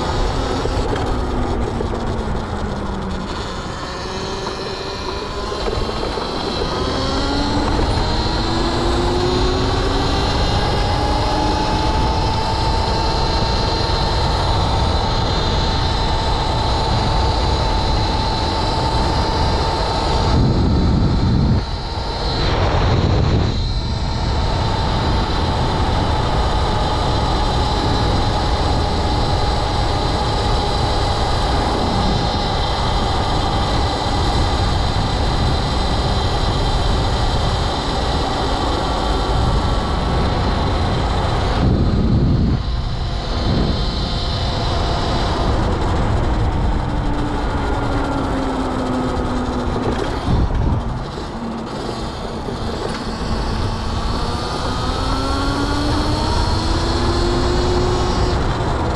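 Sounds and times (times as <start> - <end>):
electric motorcycle motor whining: 0.0 - 58.9.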